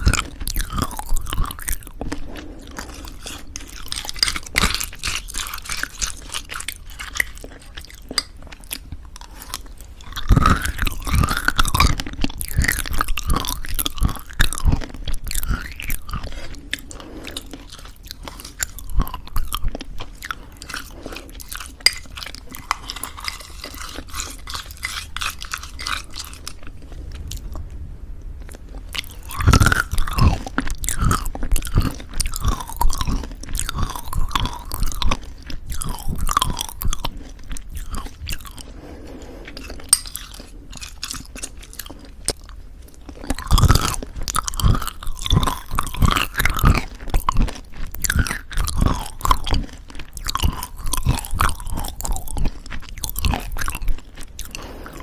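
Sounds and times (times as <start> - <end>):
chewing crunchy granola: 0.0 - 55.0.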